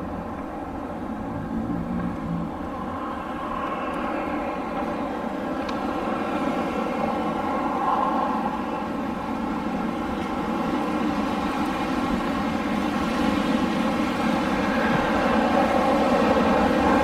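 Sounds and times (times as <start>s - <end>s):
rushing wind: 0.0s - 17.0s.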